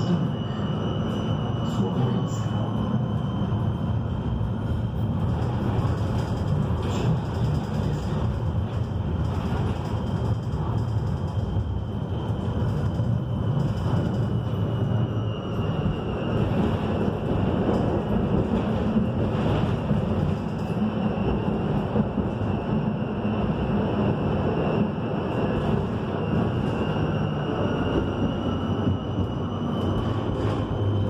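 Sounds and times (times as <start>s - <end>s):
tram wheels rumbling: 0.0s - 31.0s.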